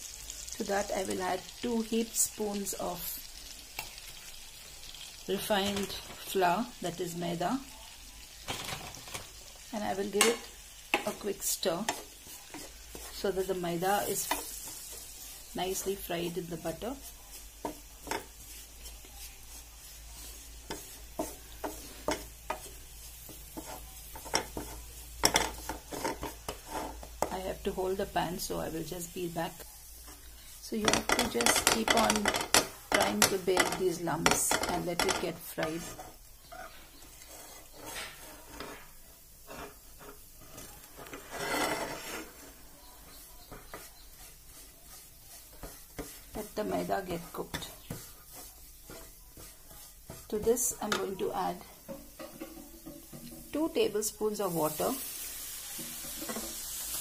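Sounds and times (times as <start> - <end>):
faint sizzle: 0.0 - 57.0
wooden spatula scraping a pan: 4.9 - 7.2, 8.5 - 57.0.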